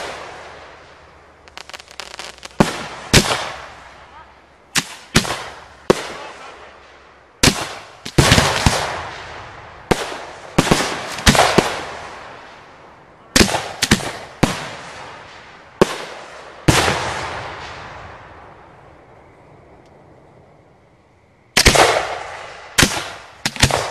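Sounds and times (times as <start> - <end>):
firework bangs with echoing rumble: 0.0 - 18.9, 21.6 - 23.9.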